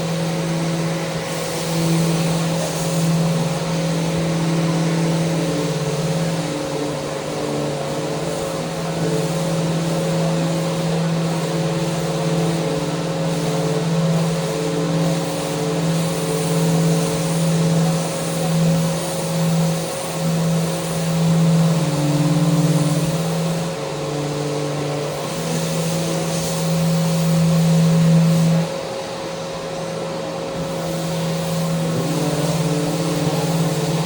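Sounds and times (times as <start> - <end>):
electric sander running: 0.0 - 28.7, 30.6 - 34.0.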